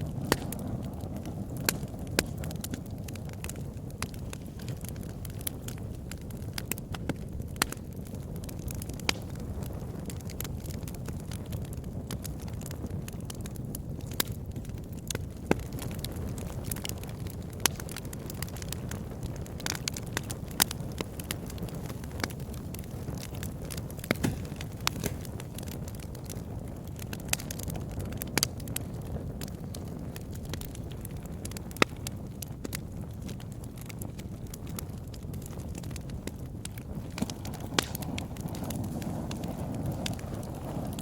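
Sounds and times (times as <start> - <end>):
burning wood crackling and popping: 0.0 - 41.0
campfire flames rumbling: 0.0 - 41.0.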